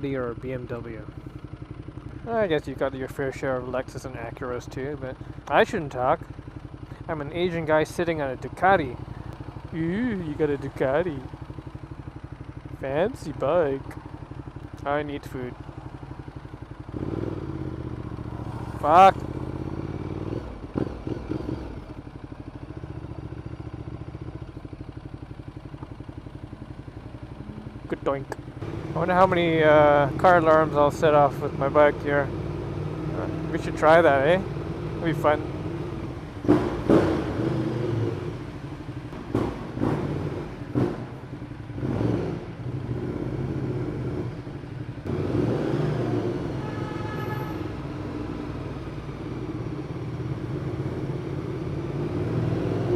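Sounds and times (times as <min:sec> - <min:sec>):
motorcycle engine idling: 0:00.0 - 0:45.2, 0:46.4 - 0:52.1.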